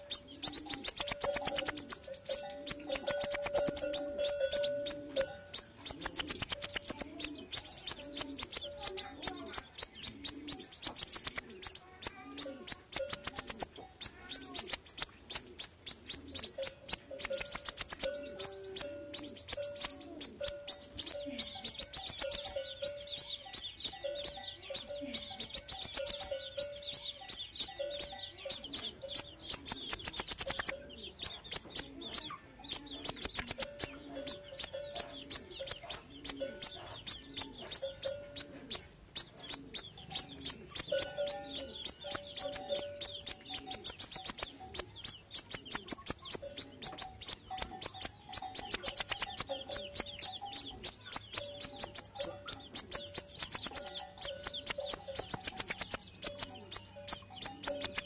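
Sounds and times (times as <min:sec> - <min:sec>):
bird chips and trills: 0:00.0 - 0:58.0.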